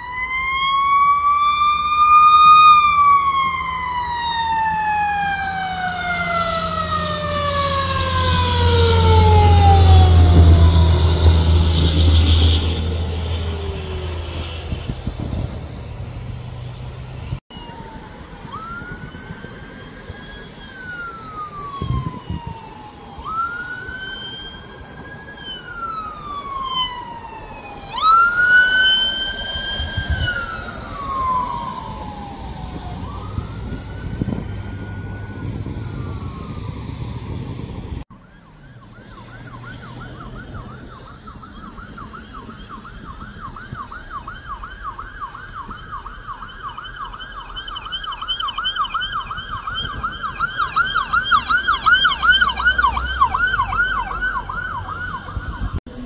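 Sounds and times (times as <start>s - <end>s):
siren fast yelp: 0.0s - 14.5s, 17.5s - 37.0s, 38.1s - 55.8s
siren wailing: 0.0s - 15.2s, 16.4s - 56.0s.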